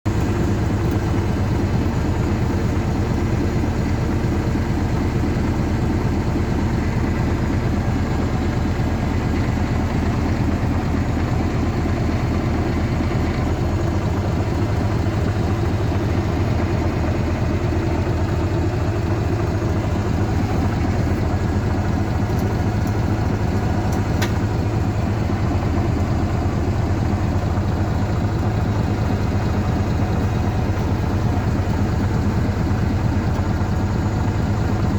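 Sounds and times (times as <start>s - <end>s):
tractor engine running steadily: 0.0s - 34.9s.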